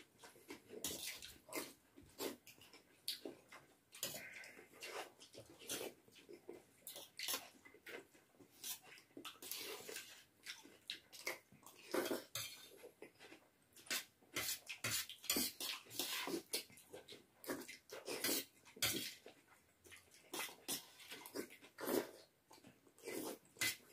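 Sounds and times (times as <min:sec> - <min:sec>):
chewing: 0:00.0 - 0:23.9.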